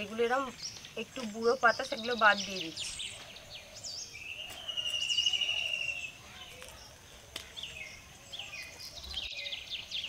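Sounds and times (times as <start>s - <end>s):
small birds whistling and chirping: 0.0s - 10.0s.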